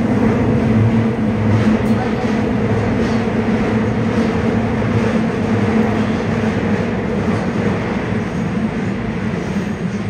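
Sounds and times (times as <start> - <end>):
train wheels rumbling on track: 0.0 - 10.0.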